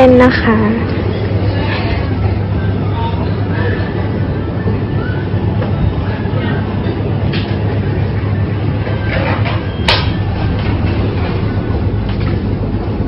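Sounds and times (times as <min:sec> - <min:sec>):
faint voices: 0:00.0 - 0:13.0
steady low hum: 0:00.0 - 0:13.0.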